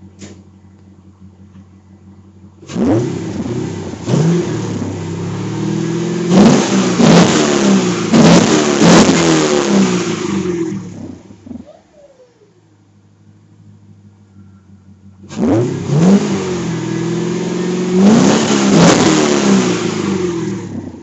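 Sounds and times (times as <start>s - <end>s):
car engine idling and revving: 0.0s - 11.7s, 12.6s - 21.0s.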